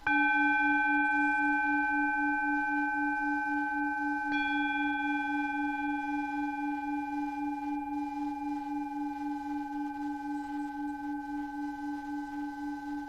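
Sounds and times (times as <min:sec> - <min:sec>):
bell-like tone struck: 0:00.0 - 0:13.0
sustained high ringing tones: 0:00.0 - 0:13.0.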